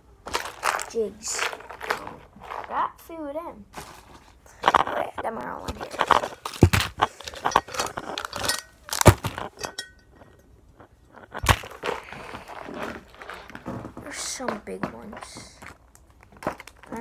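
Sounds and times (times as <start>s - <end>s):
plastic packaging rustling: 0.2s - 2.8s, 3.7s - 17.0s.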